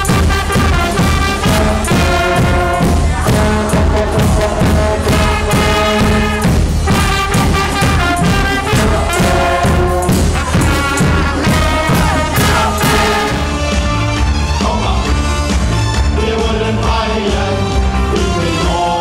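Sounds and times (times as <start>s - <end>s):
trumpets: 0.0s - 16.4s
bass drum beat: 0.0s - 18.9s
brass band playing loud: 0.0s - 19.0s
tubas: 0.0s - 19.0s.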